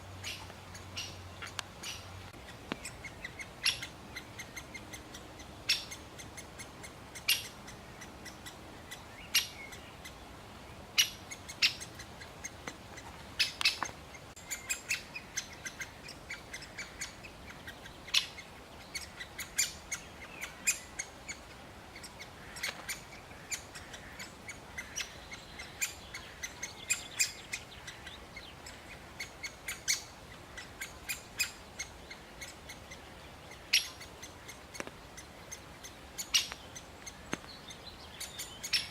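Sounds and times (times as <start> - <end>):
woodpecker sharp calls: 0.0 - 10.2, 10.9 - 38.9.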